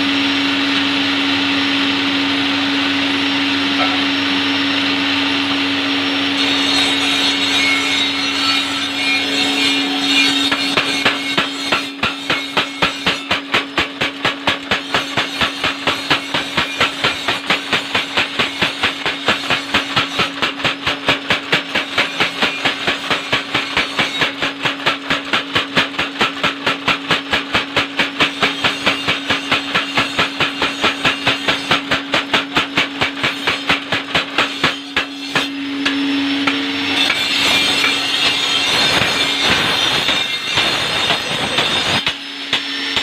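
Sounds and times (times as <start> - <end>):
steady hum: 0.0 - 39.8
power hammer pounding steel: 2.0 - 4.2, 4.8 - 43.0.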